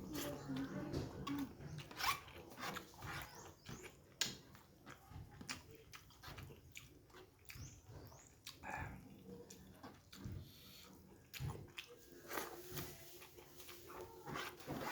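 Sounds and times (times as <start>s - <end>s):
person chewing: 0.0s - 14.9s.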